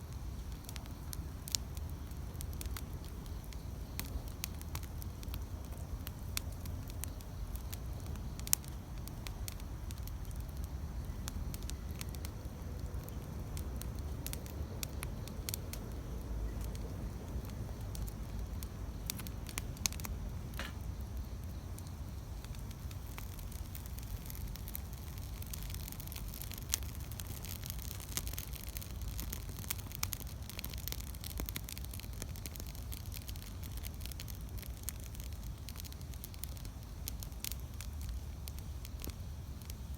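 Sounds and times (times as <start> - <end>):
campfire crackling and popping: 0.0 - 39.9
low fire rumble: 0.0 - 39.9.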